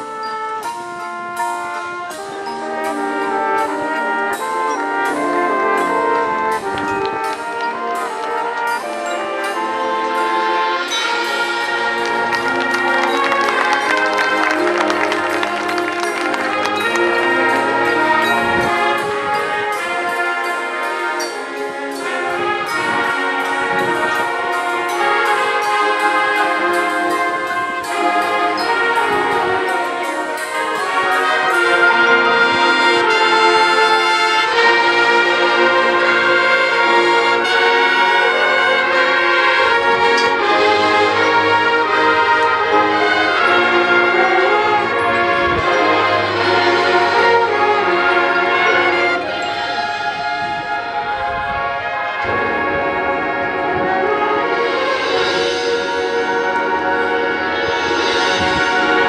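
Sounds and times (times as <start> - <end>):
brass band playing chords: 0.0 - 59.0
ticking percussion: 0.0 - 59.0.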